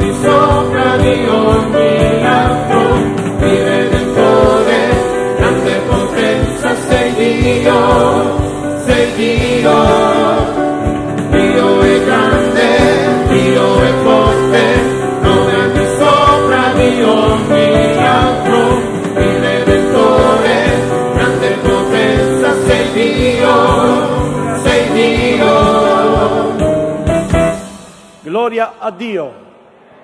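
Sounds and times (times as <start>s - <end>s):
group singing gospel song: 0.0s - 27.7s
acoustic guitar: 0.0s - 28.1s.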